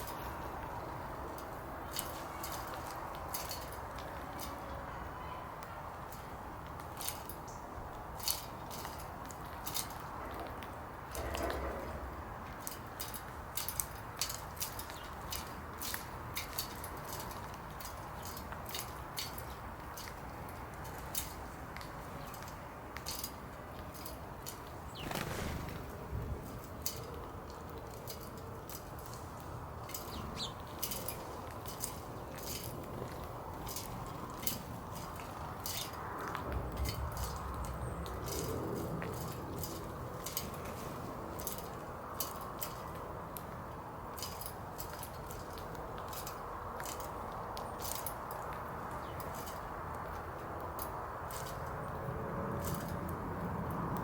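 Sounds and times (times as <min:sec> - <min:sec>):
birds pecking and cracking seed: 0:00.0 - 0:54.0
outdoor background: 0:00.0 - 0:54.0
rustle: 0:00.0 - 0:54.0.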